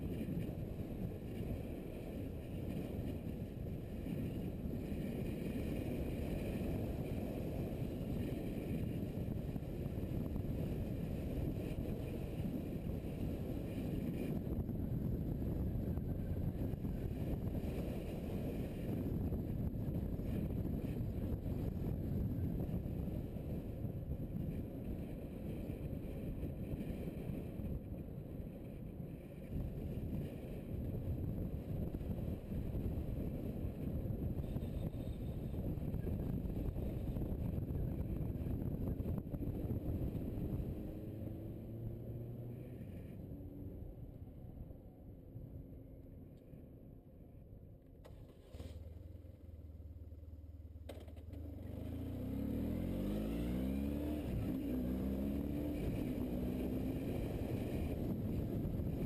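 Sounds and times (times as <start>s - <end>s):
motorcycle running: 0.0s - 27.4s, 28.2s - 43.9s, 48.4s - 59.0s
road noise: 0.0s - 59.0s
wind rumble: 0.0s - 59.0s.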